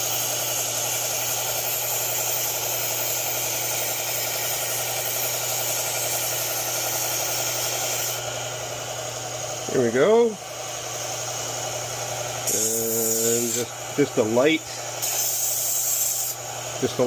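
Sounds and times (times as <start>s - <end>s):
belt sander grinding knife: 0.0s - 17.0s.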